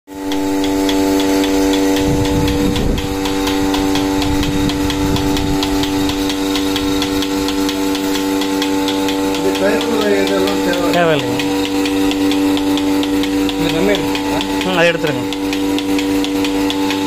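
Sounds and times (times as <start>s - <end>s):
electric vacuum pump humming: 0.1s - 17.0s
fast regular ticking: 0.2s - 17.0s.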